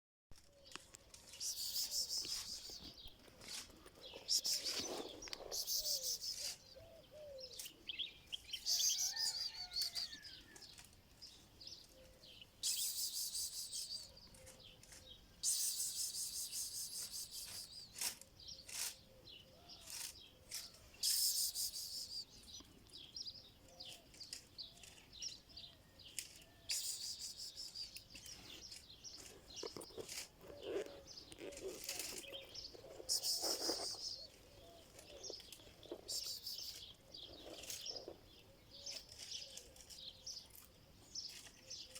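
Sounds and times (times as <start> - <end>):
small birds chirping and trilling: 0.4 - 41.9.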